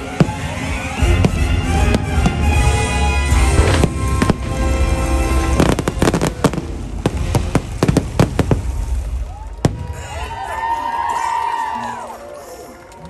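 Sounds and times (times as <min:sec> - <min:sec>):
fireworks bangs and crackles: 0:00.0 - 0:10.7
music soundtrack: 0:00.0 - 0:13.0.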